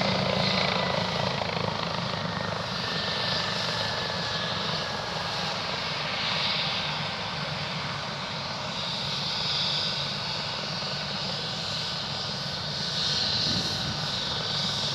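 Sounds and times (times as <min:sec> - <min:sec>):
helicopter turbine hiss: 0:00.0 - 0:14.9
low rotor rumble: 0:00.0 - 0:14.9.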